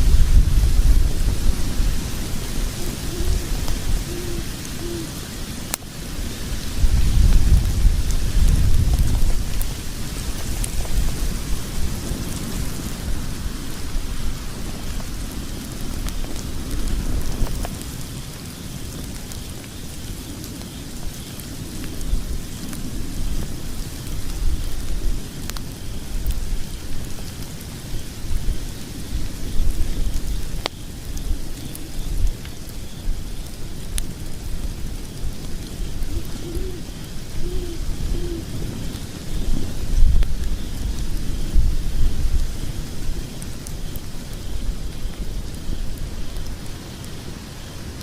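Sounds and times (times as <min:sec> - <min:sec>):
fire crackles and pops: 0:00.0 - 0:48.0
low rumble of flames: 0:00.0 - 0:48.0.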